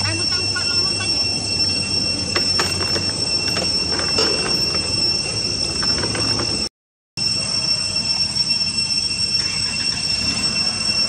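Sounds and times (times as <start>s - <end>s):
insects droning: 0.0s - 6.6s, 7.2s - 11.0s.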